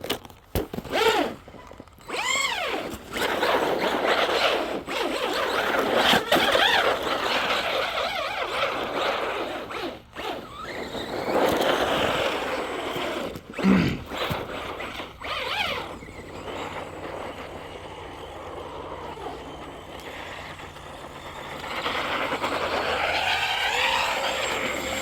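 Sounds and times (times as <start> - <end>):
tires churning snow: 0.8 - 25.0
electric motor whining: 2.0 - 25.0.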